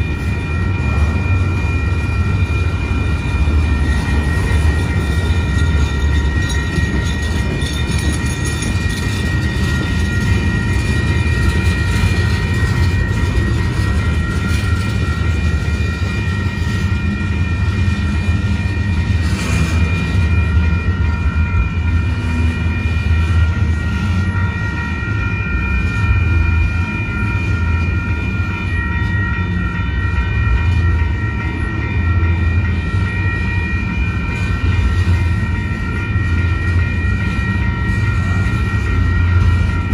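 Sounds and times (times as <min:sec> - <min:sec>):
high ringing tones: 0:00.0 - 0:39.9
train wheels rumbling on rail: 0:00.0 - 0:39.9.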